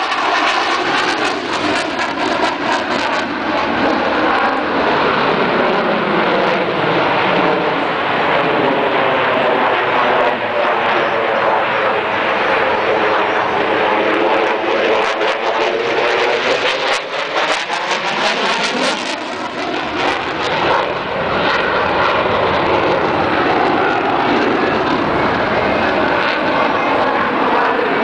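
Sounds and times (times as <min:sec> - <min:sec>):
jet engine roar overhead: 0:00.0 - 0:28.0.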